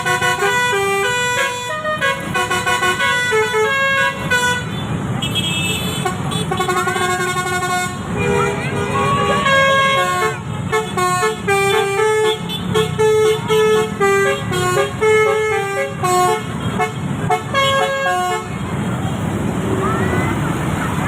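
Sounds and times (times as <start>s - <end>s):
bus horn playing melody: 0.0s - 18.6s.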